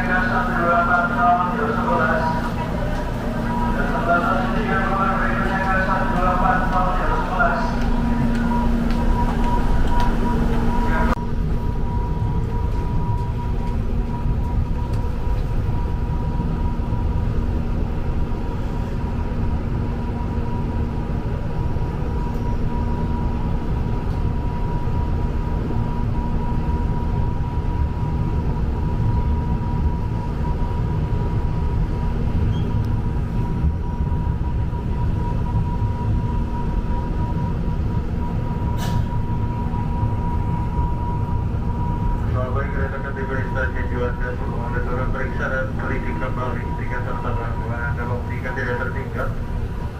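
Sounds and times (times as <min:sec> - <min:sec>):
electric train rumble and hum: 0:00.0 - 0:49.9.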